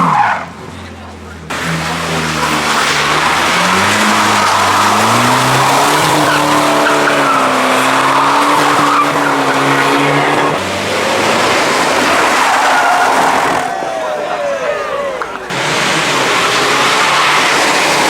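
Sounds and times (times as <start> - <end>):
car engine revving: 0.0 - 14.0, 15.0 - 18.0
tyres squealing and skidding: 0.0 - 18.0.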